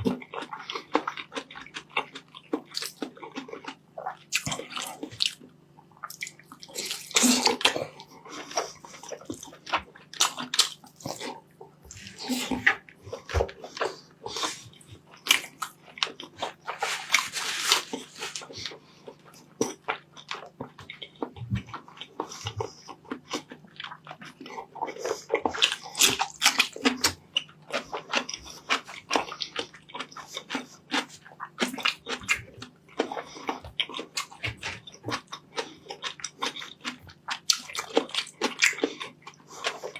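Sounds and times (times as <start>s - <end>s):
wet chewing and lip smacking: 0.0s - 39.9s.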